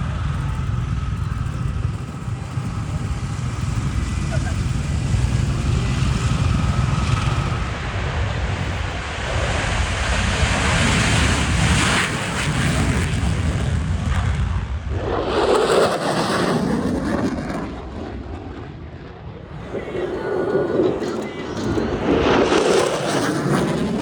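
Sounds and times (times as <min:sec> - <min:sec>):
wind noise on microphone: 0:00.0 - 0:17.6, 0:19.5 - 0:24.0
airplane engine rumble: 0:00.0 - 0:24.0.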